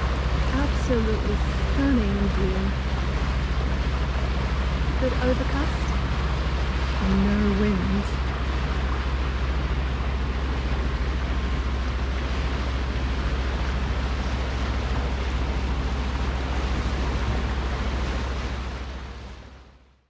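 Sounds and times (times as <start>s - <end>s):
boat diesel engine droning: 0.0s - 20.0s
wind and water hiss: 0.0s - 20.0s.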